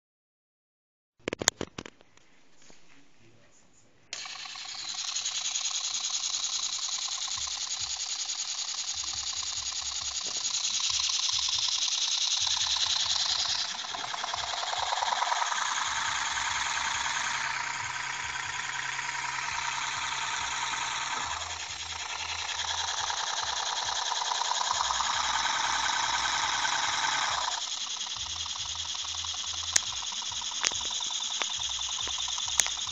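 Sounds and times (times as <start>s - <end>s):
small motor buzzing: 4.1s - 32.9s
sharp ticks on paper towel: 4.2s - 32.9s.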